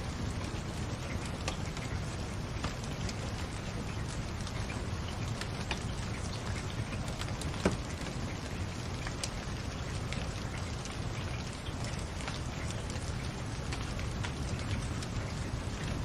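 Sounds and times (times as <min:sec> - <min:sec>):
fire crackles and pops: 0:00.0 - 0:16.0
logs burning in fireplace: 0:00.0 - 0:16.0.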